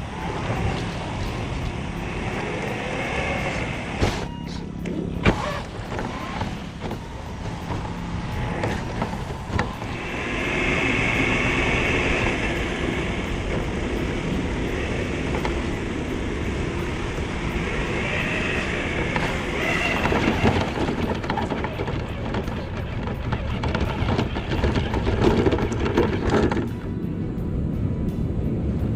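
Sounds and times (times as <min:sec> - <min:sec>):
electric motor whining: 0:00.0 - 0:26.6
toy car rumbling over rough ground: 0:00.0 - 0:27.0.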